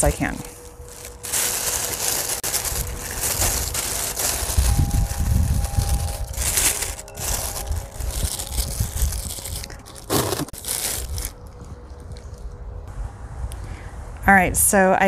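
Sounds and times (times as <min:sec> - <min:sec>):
plastic bags crinkling: 0:00.0 - 0:12.4.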